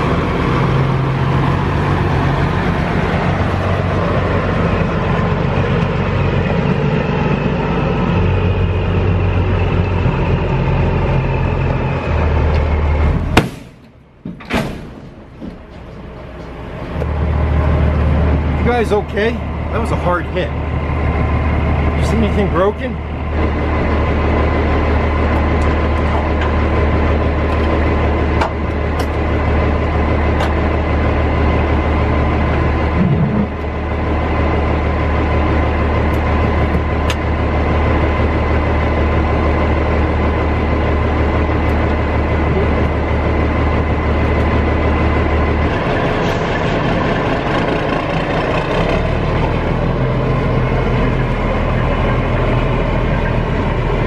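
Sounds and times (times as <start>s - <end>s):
diesel truck idling: 0.0s - 54.0s.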